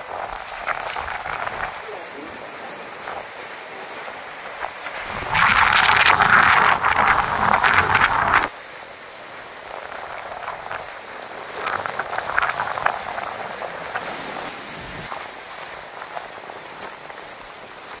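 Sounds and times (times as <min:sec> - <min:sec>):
heavy rain splashing: 0:00.0 - 0:18.0.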